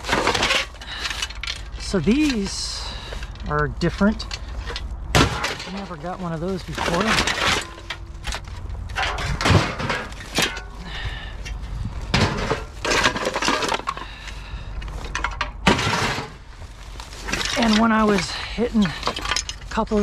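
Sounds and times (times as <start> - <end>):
scrap clattering and crashing: 0.0 - 20.0.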